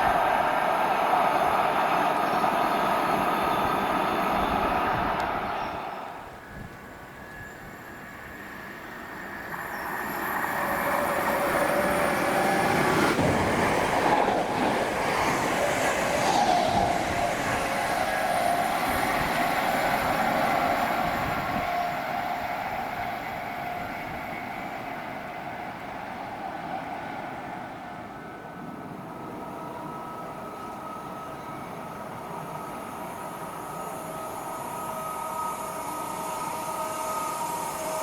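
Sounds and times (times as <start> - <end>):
train passing: 0.0 - 38.0.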